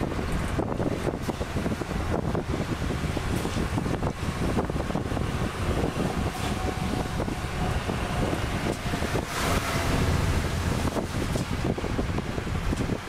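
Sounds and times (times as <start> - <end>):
car engine and tyre rumble: 0.0 - 13.0
wind noise: 0.0 - 13.0.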